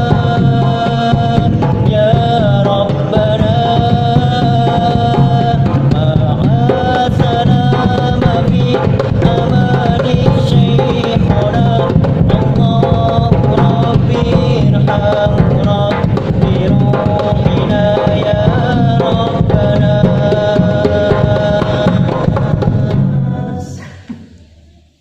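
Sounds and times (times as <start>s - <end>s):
hand drums playing: 0.0s - 24.5s
person singing: 0.0s - 25.0s.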